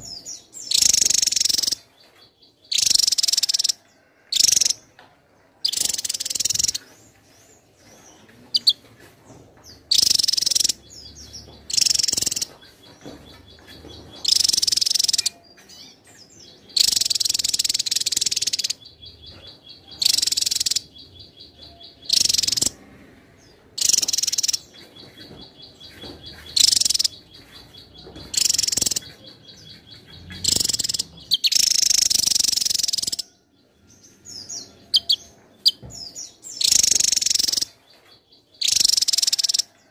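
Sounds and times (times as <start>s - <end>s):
bird twittering song: 0.0s - 4.9s, 5.6s - 39.9s.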